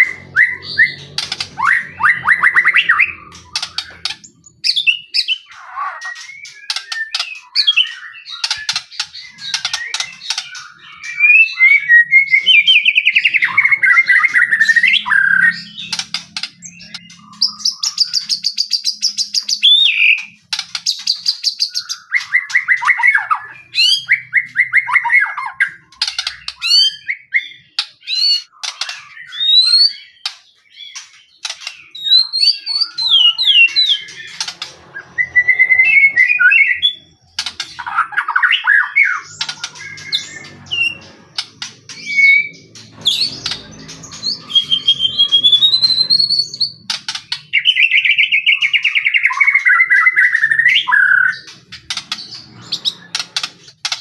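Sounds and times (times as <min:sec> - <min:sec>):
songbird singing varied song: 0:00.0 - 0:53.5.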